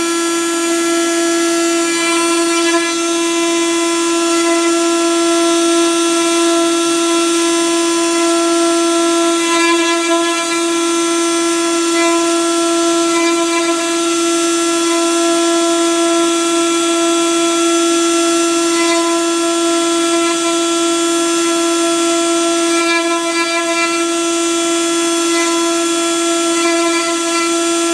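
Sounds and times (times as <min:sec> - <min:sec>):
bit cutting plastic: 0:00.0 - 0:27.9
router spindle whine: 0:00.0 - 0:27.9.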